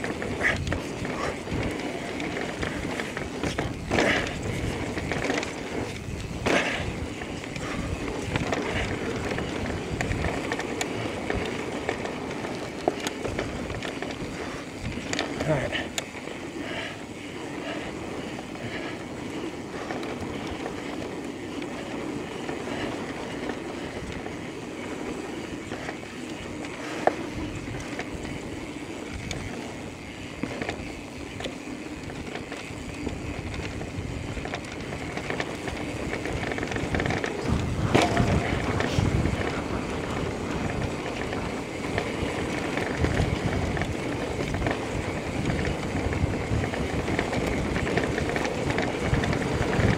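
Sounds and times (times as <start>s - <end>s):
bike jolting: 0.0s - 49.9s
bike tyre and trail noise: 0.0s - 49.9s.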